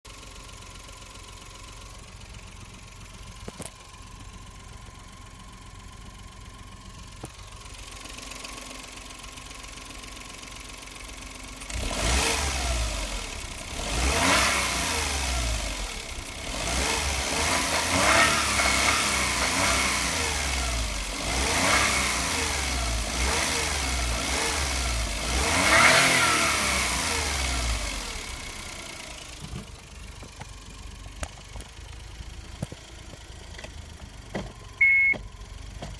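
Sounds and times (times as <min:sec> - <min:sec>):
van engine idling and revving: 0:00.1 - 0:35.9.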